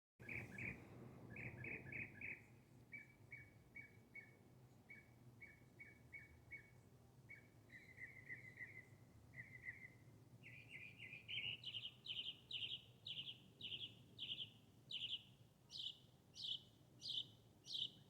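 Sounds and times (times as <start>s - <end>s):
bird chirping: 0.2s - 18.0s.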